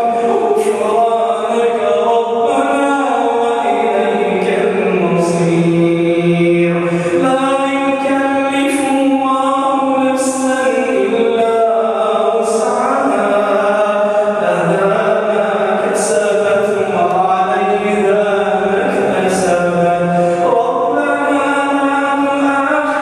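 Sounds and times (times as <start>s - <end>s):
man chanting recitation: 0.0s - 23.0s.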